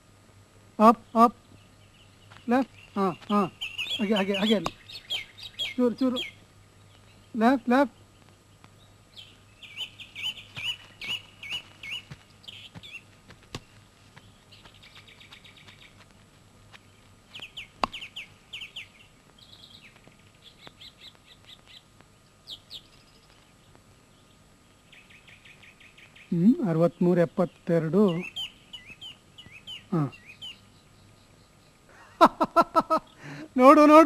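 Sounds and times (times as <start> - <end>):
small birds chirping and trilling: 0.8 - 32.2.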